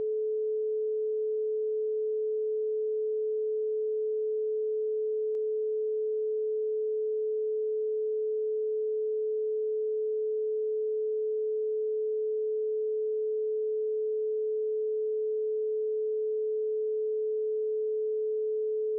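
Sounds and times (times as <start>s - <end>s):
pure sine wave tone: 0.0s - 18.9s.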